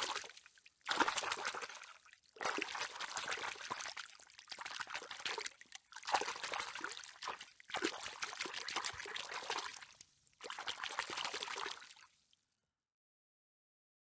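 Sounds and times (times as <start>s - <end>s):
water trickling and splashing: 0.0s - 12.4s.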